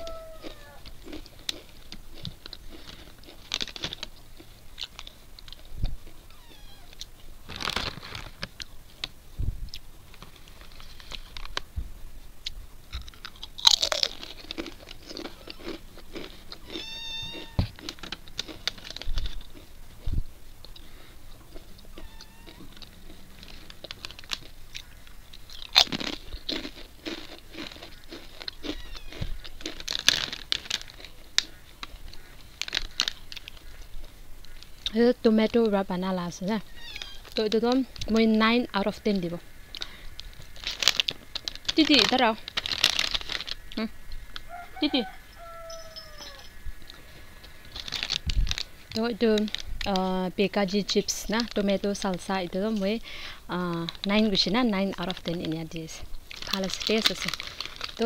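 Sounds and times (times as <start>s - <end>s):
crunching and chewing chips: 0.0s - 11.7s, 12.4s - 35.8s, 39.1s - 58.0s.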